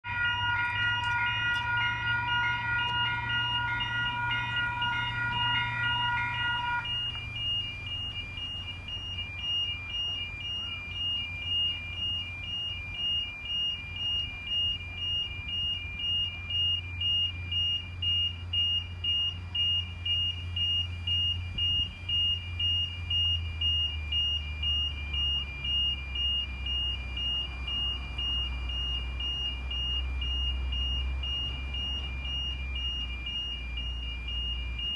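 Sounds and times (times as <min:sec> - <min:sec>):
steady high-pitched tone: 0:00.0 - 0:34.9.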